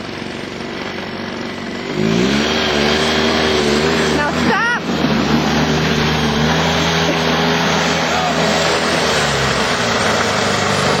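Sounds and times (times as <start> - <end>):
small two-stroke engine running: 0.0 - 11.0.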